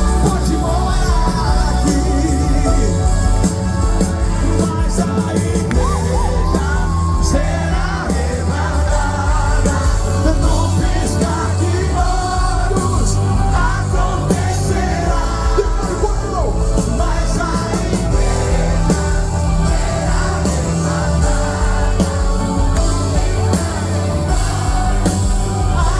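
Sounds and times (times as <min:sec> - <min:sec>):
heavy bass: 0:00.0 - 0:25.9
live band music: 0:00.0 - 0:25.9.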